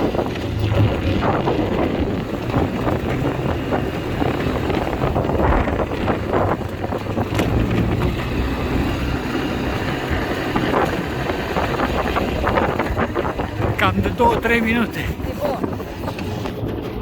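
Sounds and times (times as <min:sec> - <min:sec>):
atv engine running: 0:00.0 - 0:17.0
wind buffeting microphone: 0:00.0 - 0:17.0.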